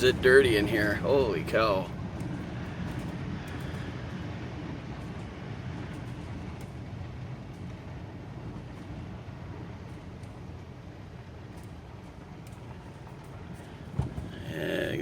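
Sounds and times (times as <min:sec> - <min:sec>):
motorhome engine rumble: 0:00.0 - 0:15.0
road and cab noise: 0:00.0 - 0:15.0.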